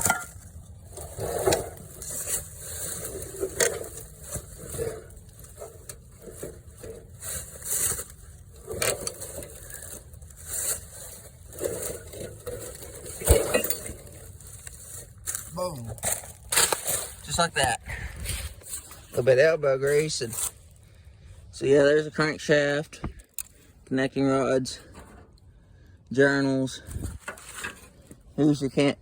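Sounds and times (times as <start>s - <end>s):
metal clanks and scraping: 0.0s - 20.7s, 24.6s - 25.5s, 26.7s - 28.9s.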